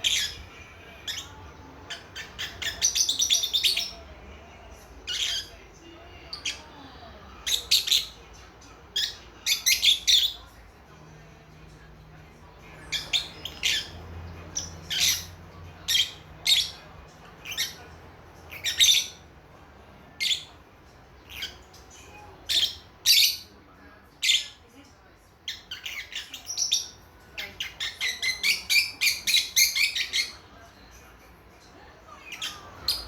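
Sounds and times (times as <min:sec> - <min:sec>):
lovebirds chirping: 0:00.0 - 0:31.1, 0:31.8 - 0:33.0.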